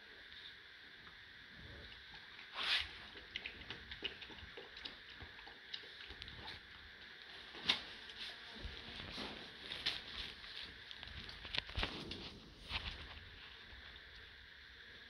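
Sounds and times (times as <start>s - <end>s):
puppies chewing and scratching: 1.7s - 14.2s.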